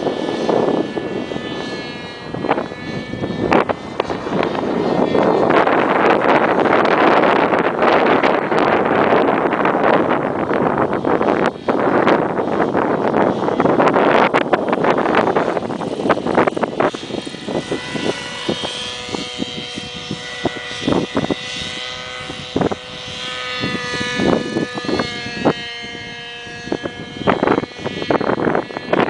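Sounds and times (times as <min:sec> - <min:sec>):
model helicopter whine: 0:00.0 - 0:29.0
wind buffeting microphone: 0:00.0 - 0:29.0.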